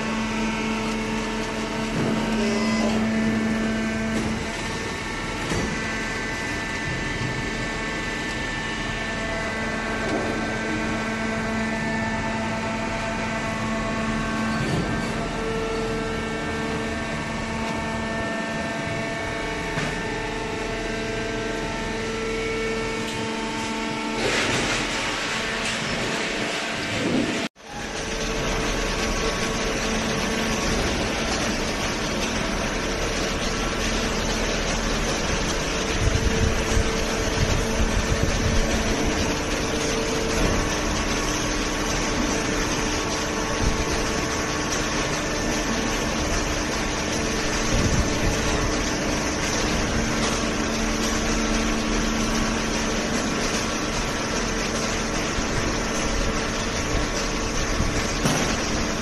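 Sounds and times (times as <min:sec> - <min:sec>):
machine hum and rumble: 0:00.0 - 0:59.0.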